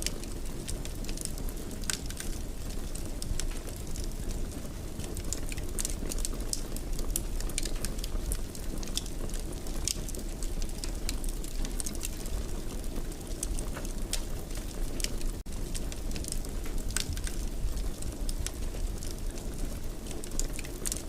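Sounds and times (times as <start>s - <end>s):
fire crackling and popping: 0.0s - 21.0s
fire flames burning: 0.0s - 21.0s.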